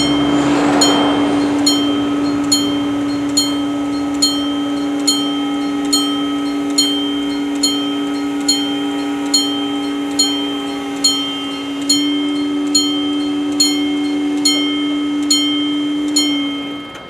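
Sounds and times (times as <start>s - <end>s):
steady low hum: 0.0s - 15.6s
level crossing warning bell: 0.0s - 17.0s.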